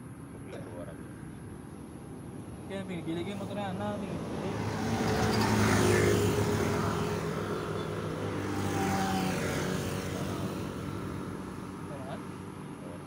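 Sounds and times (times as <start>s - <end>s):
motorbike engines passing: 0.0s - 13.0s.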